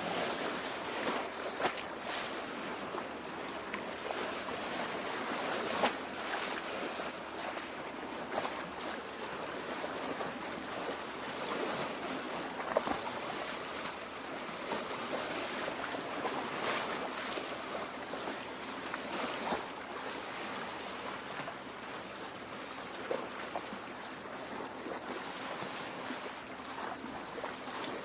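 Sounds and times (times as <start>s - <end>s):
small waves lapping: 0.0s - 28.0s.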